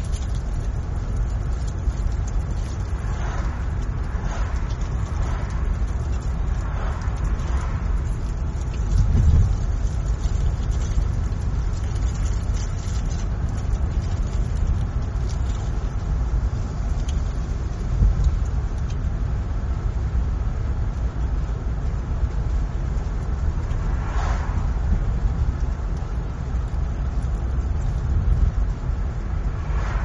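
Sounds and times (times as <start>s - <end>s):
car driving on road: 0.0s - 30.0s.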